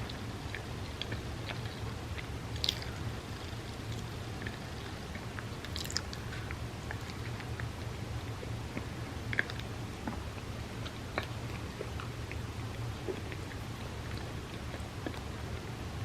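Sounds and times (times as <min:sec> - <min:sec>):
chewing with mouth clicks: 0:00.0 - 0:16.0.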